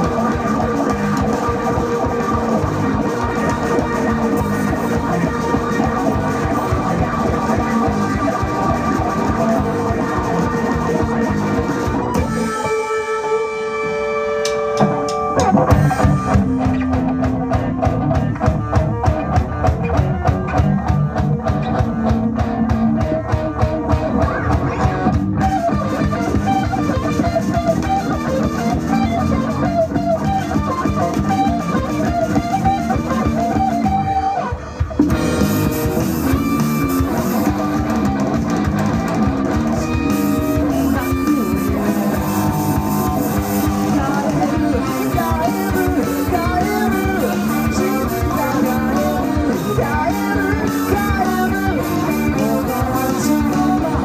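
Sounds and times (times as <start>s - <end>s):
drums driving beat: 0.0s - 54.0s
lead guitar line: 0.0s - 54.0s
rock band playing live: 0.0s - 54.0s.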